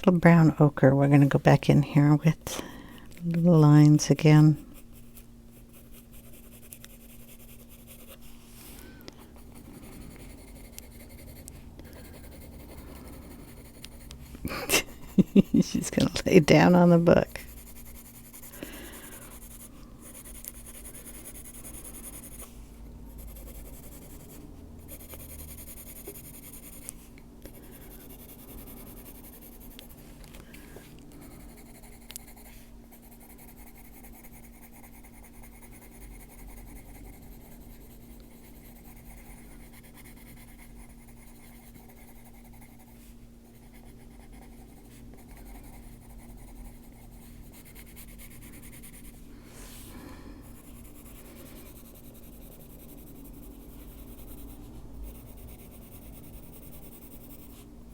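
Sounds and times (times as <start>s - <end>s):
colored pencil scratching on paper: 3.4s - 8.7s, 9.3s - 14.4s, 15.3s - 30.0s, 31.2s - 49.8s, 50.4s - 57.7s.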